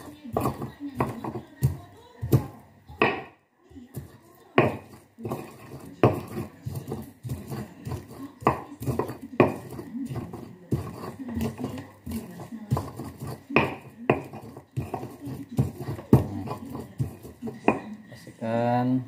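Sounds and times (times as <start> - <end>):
stone pestle pounding: 0.0 - 3.3, 3.9 - 17.9.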